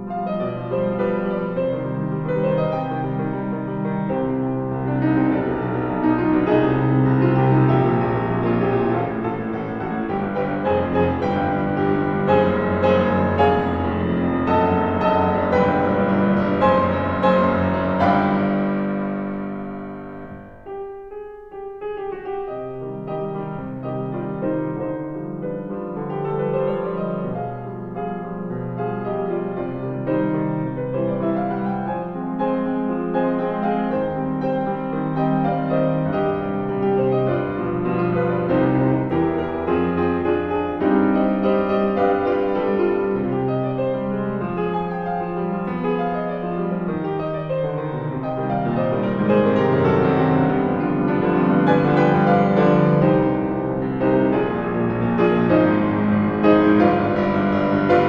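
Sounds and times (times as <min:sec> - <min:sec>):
solo piano playing: 0:00.0 - 0:58.0.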